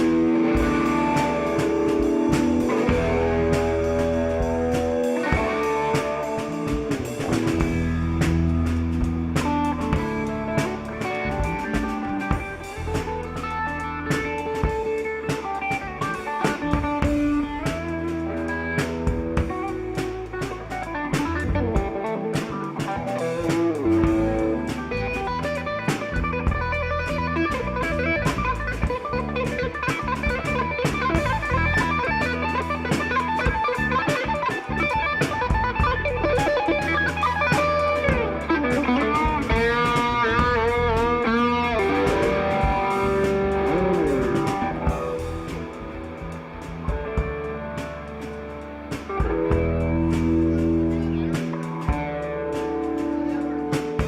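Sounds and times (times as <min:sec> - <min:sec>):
electric guitar with bent notes: 0:00.0 - 0:54.0
rock band playing live: 0:00.0 - 0:54.0.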